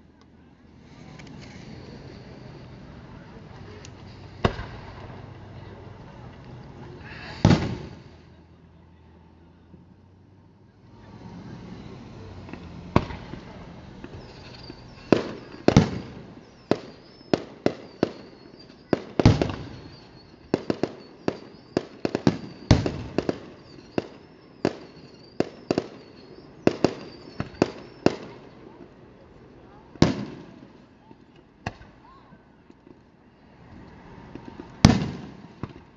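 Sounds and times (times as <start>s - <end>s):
fireworks bangs: 0.8s - 8.4s, 10.9s - 29.0s, 29.6s - 32.1s, 34.0s - 35.9s.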